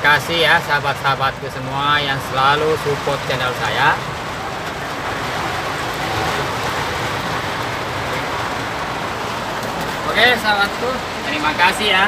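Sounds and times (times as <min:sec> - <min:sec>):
heavy rain drumming on truck cab: 0:00.0 - 0:12.0.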